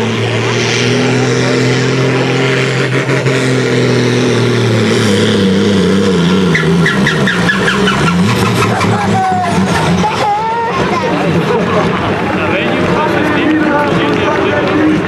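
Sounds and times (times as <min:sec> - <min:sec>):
tractor diesel engine labouring: 0:00.0 - 0:15.0.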